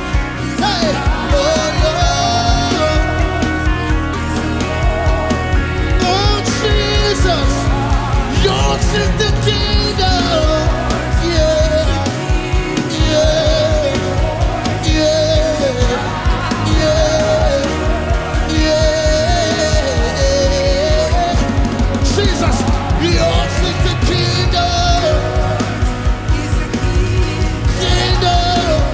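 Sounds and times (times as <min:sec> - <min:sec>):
live worship band music: 0:00.0 - 0:28.9.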